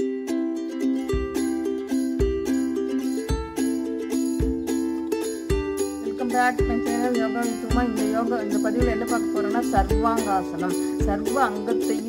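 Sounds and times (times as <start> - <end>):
sustained melodic notes: 0.0 - 12.0
low thumping beat: 1.0 - 12.0.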